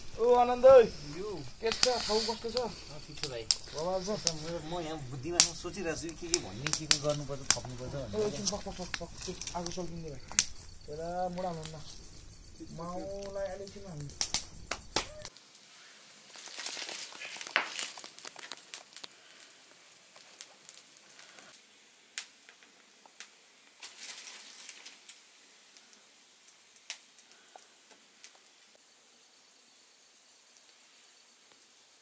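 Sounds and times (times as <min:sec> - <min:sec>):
crackling with sharp clicks: 0:00.0 - 0:12.3, 0:13.0 - 0:15.7, 0:16.3 - 0:28.8.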